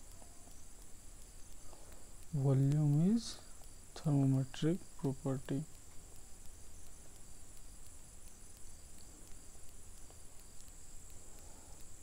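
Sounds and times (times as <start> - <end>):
faint ticks: 0.0 - 12.0
high-pitched hiss: 0.0 - 12.0.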